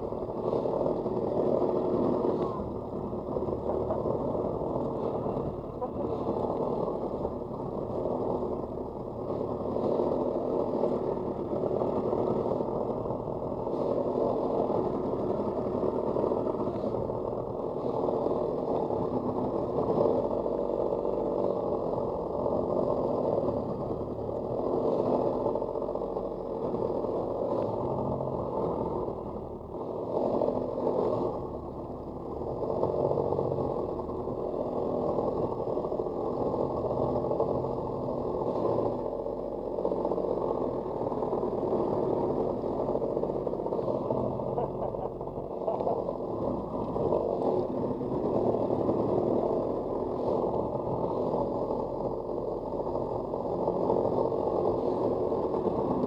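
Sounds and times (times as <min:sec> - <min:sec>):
jet ski engine running: 0:00.0 - 0:56.0.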